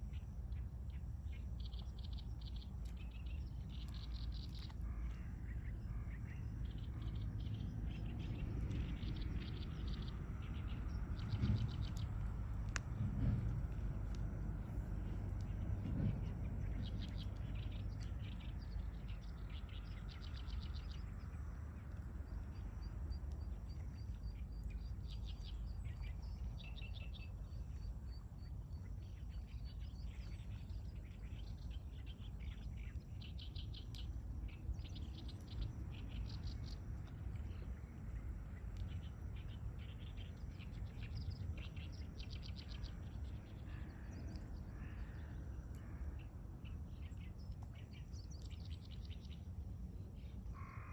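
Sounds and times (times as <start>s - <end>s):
songbirds singing and chirping: 0.0s - 50.9s
steady low rumble: 0.0s - 50.9s.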